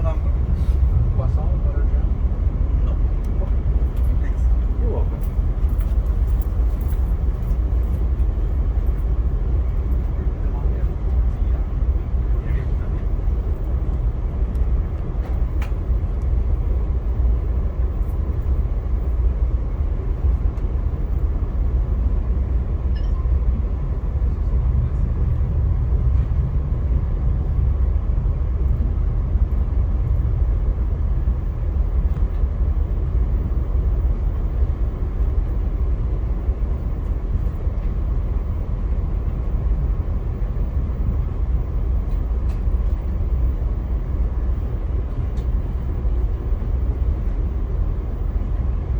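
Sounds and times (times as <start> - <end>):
train rumbling along track: 0.0 - 48.9.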